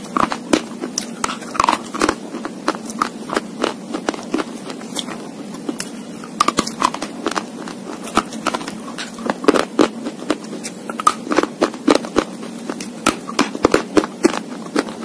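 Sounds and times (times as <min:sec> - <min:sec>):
crunching and chewing: 0:00.0 - 0:15.0.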